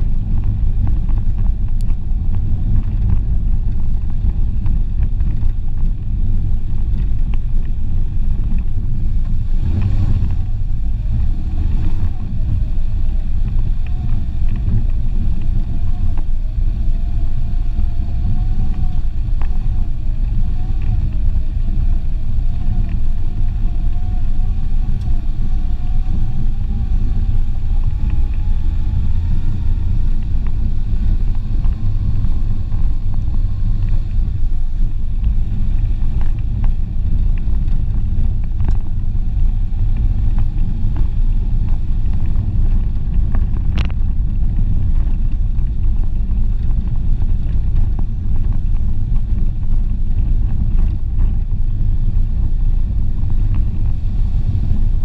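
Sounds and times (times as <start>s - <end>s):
car rumbling over gravel: 0.0s - 55.0s
faint rising whine: 0.0s - 55.0s.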